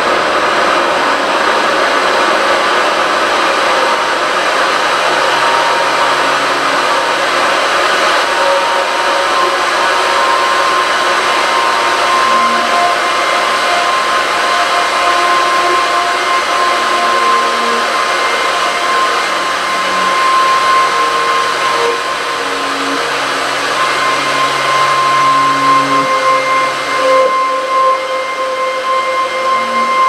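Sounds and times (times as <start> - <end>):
high held tone: 0.0 - 30.0
low drone tones: 0.0 - 30.0.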